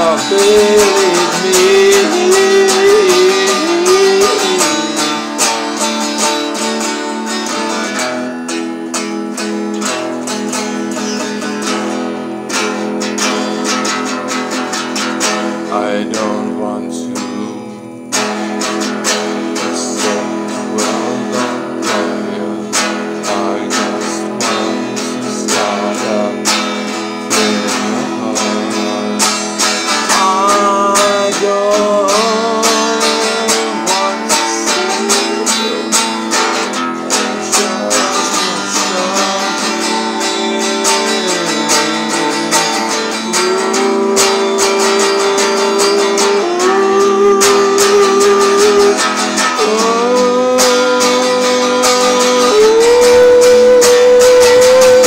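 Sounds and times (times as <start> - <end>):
man singing: 0.0 - 8.6, 9.4 - 55.0
guitar strumming: 0.0 - 55.0.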